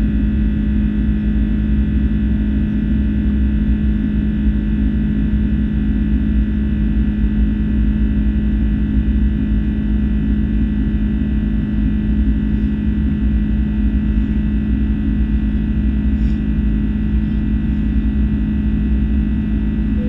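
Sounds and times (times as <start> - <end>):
jet cabin drone: 0.0 - 20.0.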